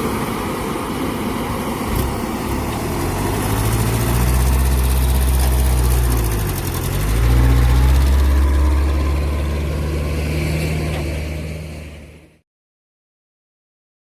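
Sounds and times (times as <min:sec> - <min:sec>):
diesel engine running: 0:00.0 - 0:12.4.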